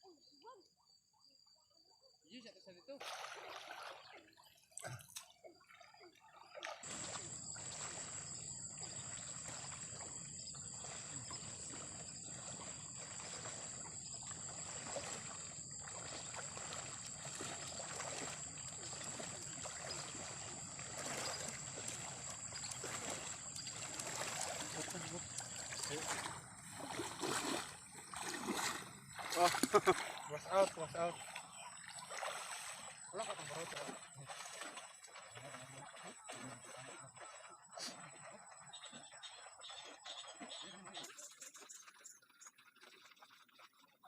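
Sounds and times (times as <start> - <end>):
water sloshing and trickling: 2.8 - 44.0
water splashes: 2.9 - 44.0.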